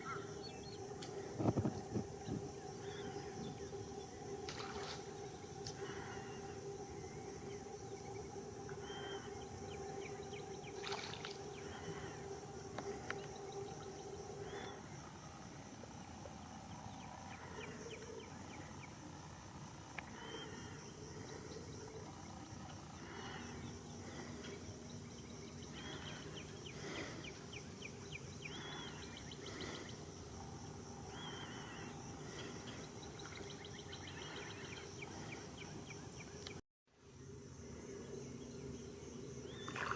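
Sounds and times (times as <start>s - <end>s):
high insect hum: 0.0s - 39.9s
low steady hum: 0.0s - 39.9s.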